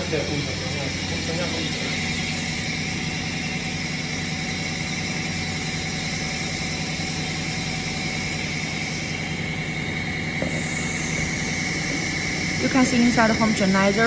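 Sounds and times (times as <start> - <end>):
mixer machine hum with high whine: 0.0 - 14.0.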